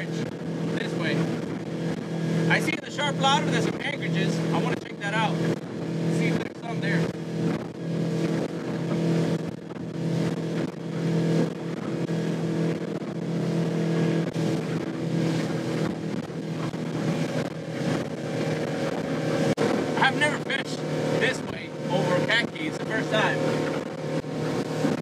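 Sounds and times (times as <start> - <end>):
boat engine humming: 0.0 - 25.0
hull rushing through water: 0.0 - 25.0.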